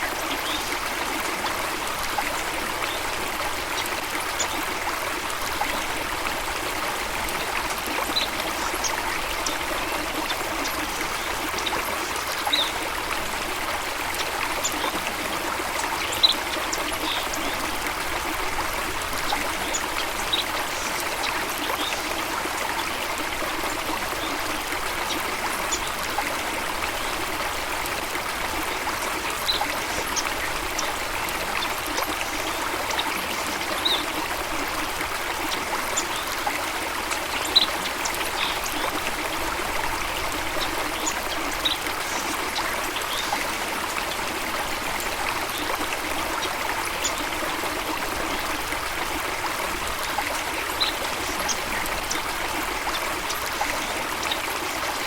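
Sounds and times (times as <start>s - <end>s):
stream water babbling: 0.0s - 55.0s.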